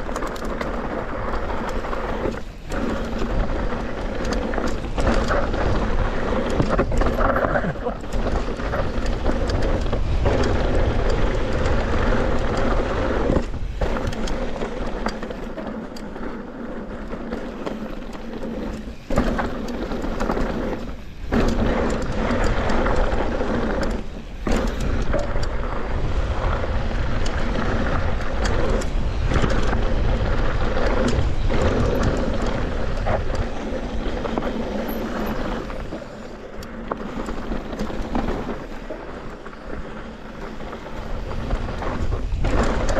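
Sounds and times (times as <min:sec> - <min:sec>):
bike tyres and frame rattling: 0:00.0 - 0:42.9
wind buffeting microphone: 0:00.0 - 0:42.9.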